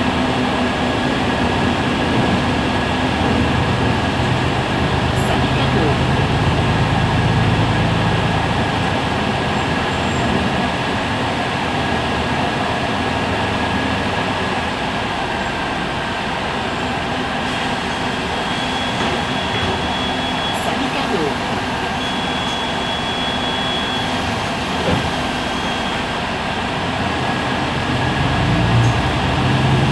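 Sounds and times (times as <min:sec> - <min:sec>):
bus engine idling: 0:00.0 - 0:29.9.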